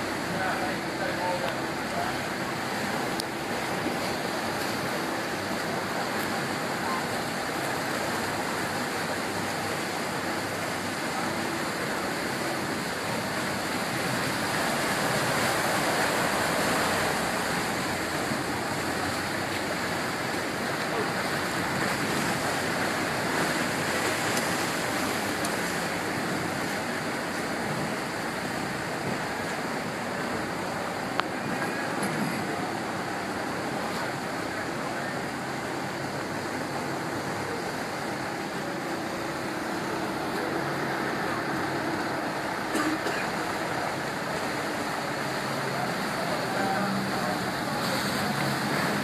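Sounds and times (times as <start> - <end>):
motorboat water rushing: 0.0 - 49.0
wind: 0.0 - 49.0.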